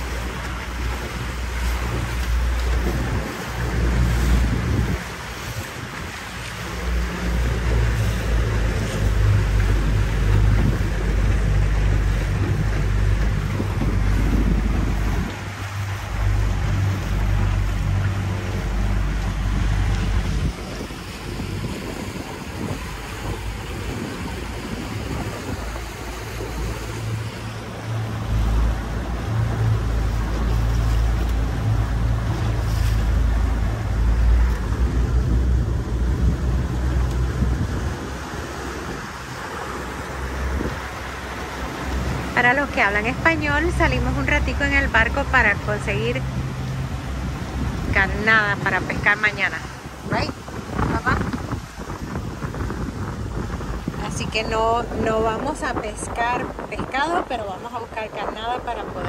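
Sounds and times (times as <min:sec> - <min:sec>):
motorboat engine rumble: 0:00.0 - 0:59.0
water rushing past hull: 0:00.0 - 0:59.0
wind buffeting microphone: 0:00.0 - 0:59.0.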